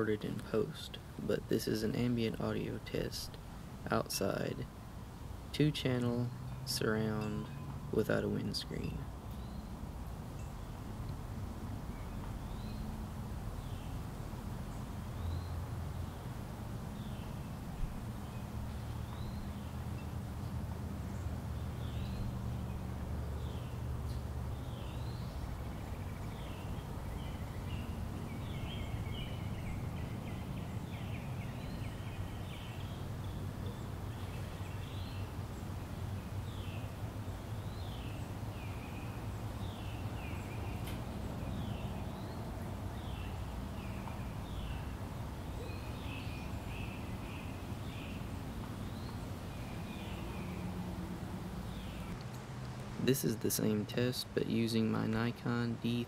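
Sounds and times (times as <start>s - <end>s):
small birds chirping: 5.6s - 56.0s.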